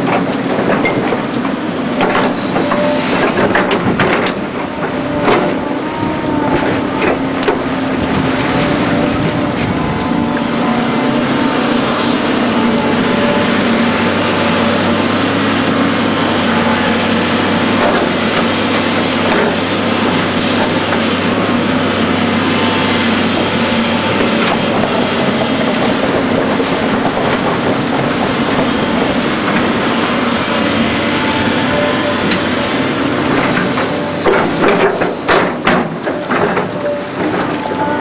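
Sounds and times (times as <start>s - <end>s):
excavator diesel engine running: 0.0s - 38.0s
metallic clanks from tracks: 0.0s - 38.0s.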